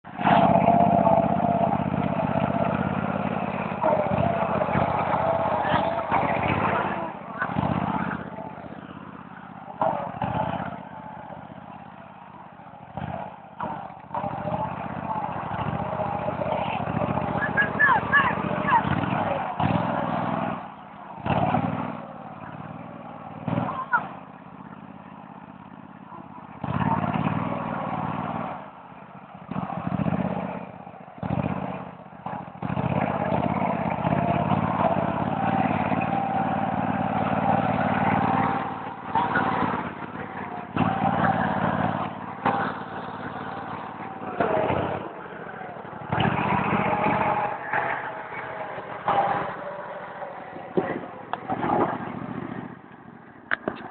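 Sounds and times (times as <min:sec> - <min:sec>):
garden tractor engine throttling: 0:00.0 - 0:53.9.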